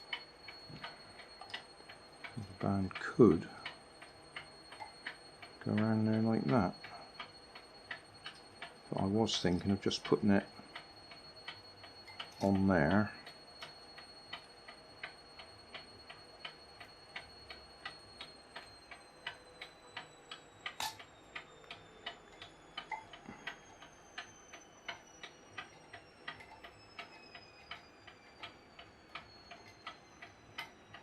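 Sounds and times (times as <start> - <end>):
clock ticking: 0.0 - 31.0.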